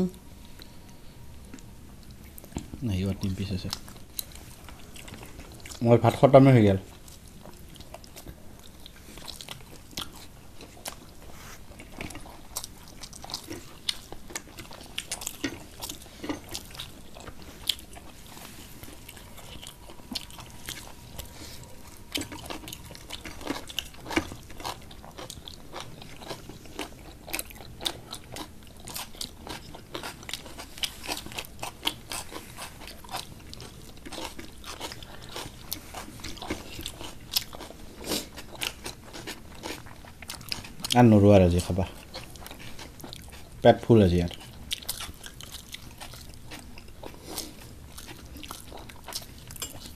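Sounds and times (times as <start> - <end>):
people chewing and eating: 0.0 - 49.9.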